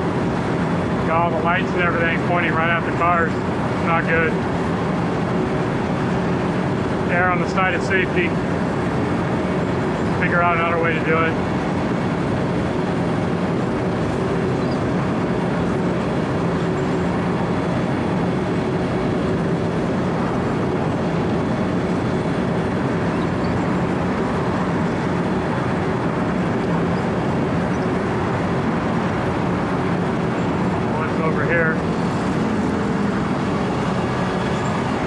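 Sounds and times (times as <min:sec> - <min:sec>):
diesel engine hum: 0:00.0 - 0:35.0
milling drum grinding asphalt: 0:00.0 - 0:35.0.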